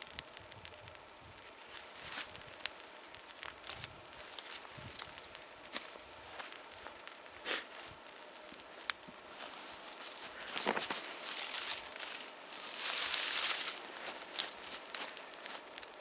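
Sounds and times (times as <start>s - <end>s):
dry bark crinkling and rustling: 0.0s - 16.0s
kindling fire crackling: 0.0s - 16.0s.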